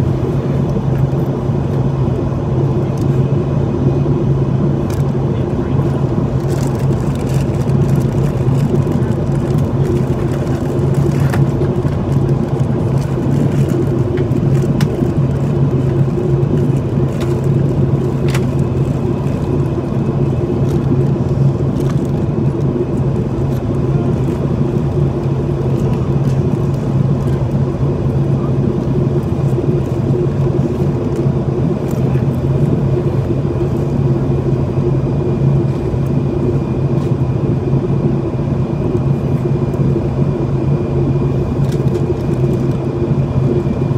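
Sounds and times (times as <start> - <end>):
jet engines humming: 0.0 - 43.9.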